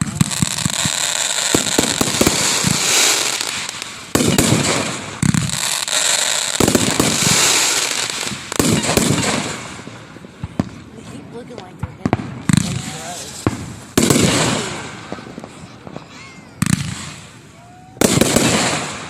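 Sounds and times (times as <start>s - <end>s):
fireworks crackling and popping: 0.0s - 19.0s
loud firework bursts: 0.0s - 19.0s.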